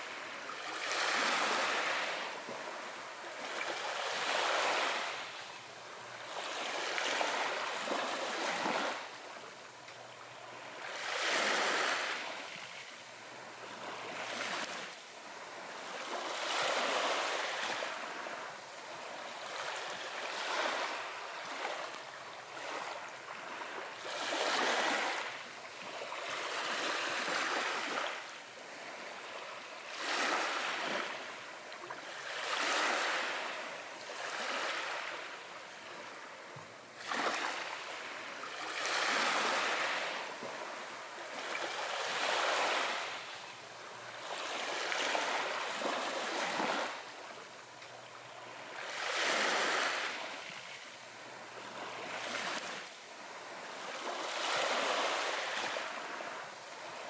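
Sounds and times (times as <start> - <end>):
small waves breaking: 0.0 - 57.0.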